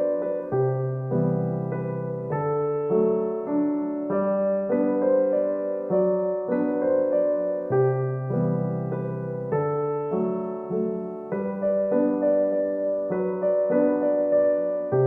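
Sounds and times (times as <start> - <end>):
gentle electric piano melody: 0.0 - 15.0.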